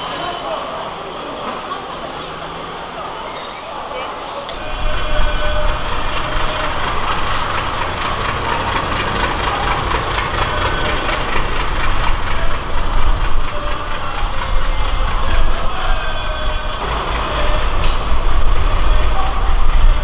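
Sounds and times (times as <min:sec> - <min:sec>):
heavy engine rumbling: 0:00.0 - 0:20.0.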